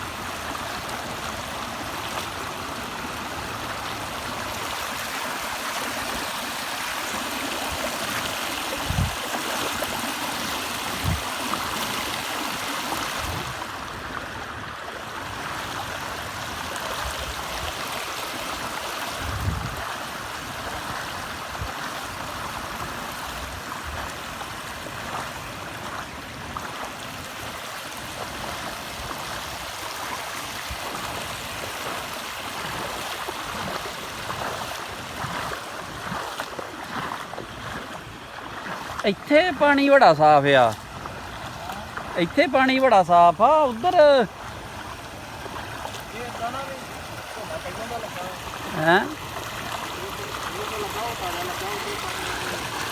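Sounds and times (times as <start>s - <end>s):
rainwater rushing: 0.0s - 52.9s.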